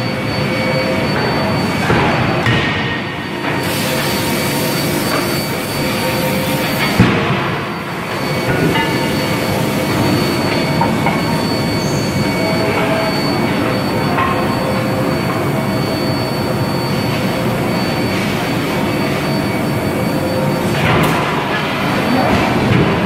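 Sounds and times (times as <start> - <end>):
constant high whine: 0.0 - 23.0
loud steady machine noise: 0.0 - 23.0.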